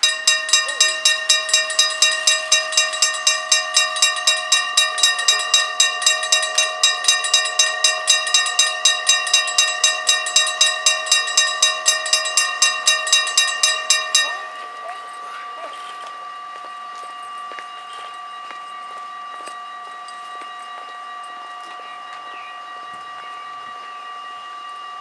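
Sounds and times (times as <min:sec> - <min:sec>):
level crossing bells ringing: 0:00.0 - 0:25.0.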